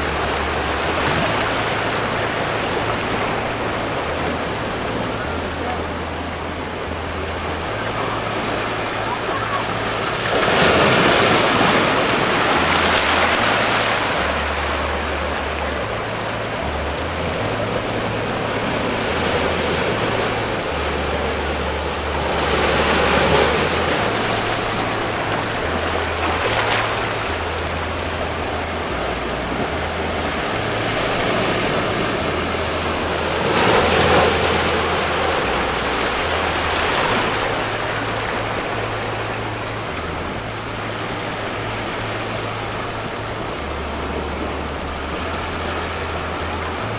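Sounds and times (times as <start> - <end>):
waves washing over rocks: 0.0 - 46.9.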